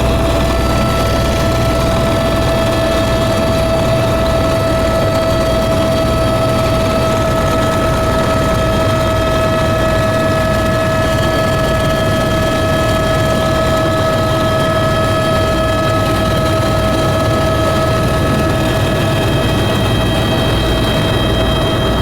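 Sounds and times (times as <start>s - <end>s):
aircraft engines droning: 0.0s - 22.0s.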